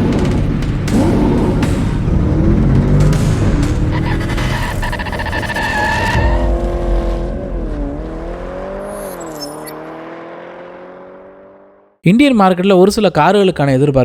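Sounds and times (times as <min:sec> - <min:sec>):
car engine: 0:00.0 - 0:12.0.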